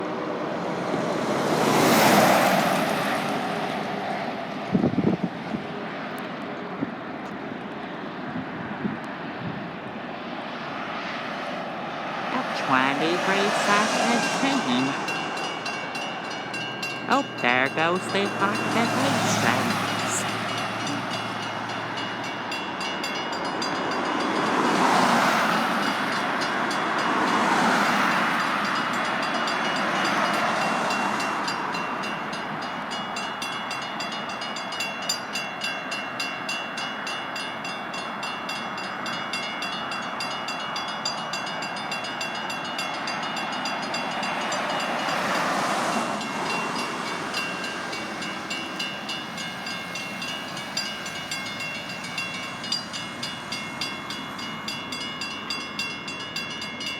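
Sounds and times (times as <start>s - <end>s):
freight train passing: 0.0s - 56.9s.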